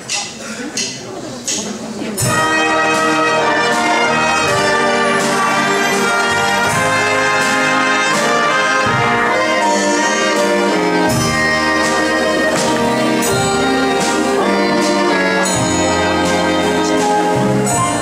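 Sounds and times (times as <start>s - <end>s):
big band dance music: 2.2s - 18.0s
trumpets and trombones: 2.2s - 18.0s.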